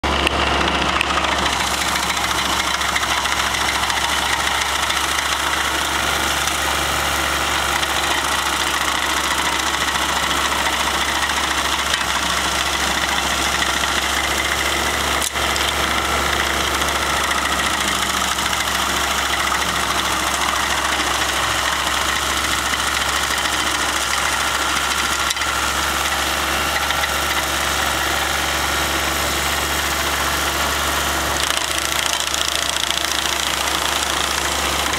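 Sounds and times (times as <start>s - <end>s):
stump grinder engine running: 0.0s - 34.9s.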